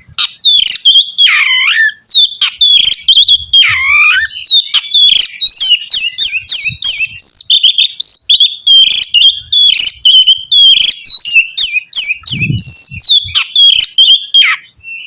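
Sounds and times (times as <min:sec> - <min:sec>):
bird song whistles and chatter: 0:00.0 - 0:15.0
long swooping bird whistle: 0:00.2 - 0:15.0.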